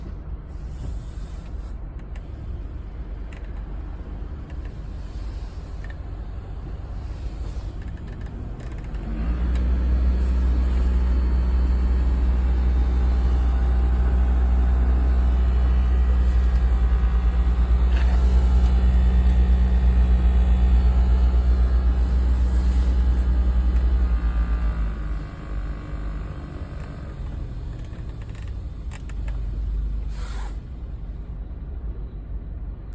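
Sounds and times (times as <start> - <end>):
car engine running: 0.0 - 32.1
low droning air conditioning hum: 0.0 - 32.9.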